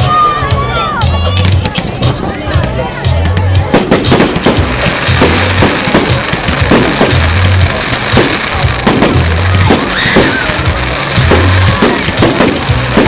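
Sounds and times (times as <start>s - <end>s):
fireworks bangs and crackles: 0.0s - 13.0s
music with deep bass beat: 0.0s - 13.0s.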